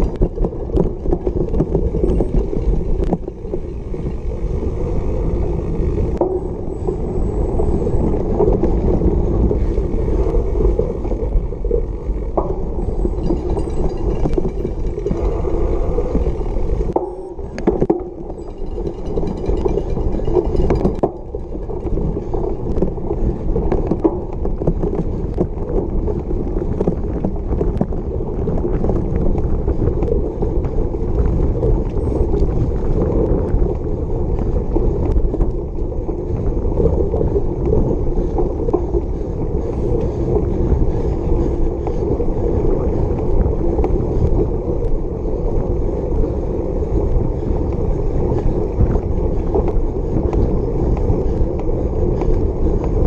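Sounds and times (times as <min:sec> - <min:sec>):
bike rattling over rough ground: 0:00.0 - 0:53.0
bike tyres rumbling on grass: 0:00.0 - 0:53.0.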